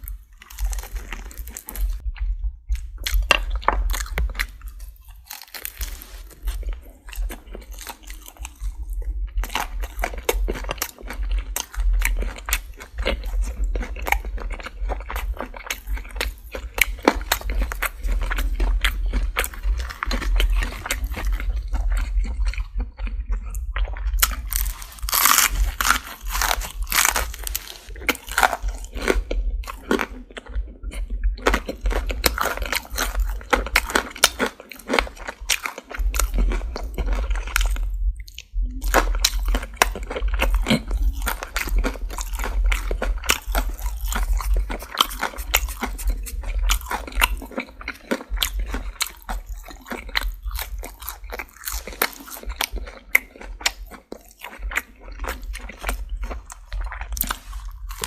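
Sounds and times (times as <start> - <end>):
chewing crispy fried chicken: 0.0 - 58.0.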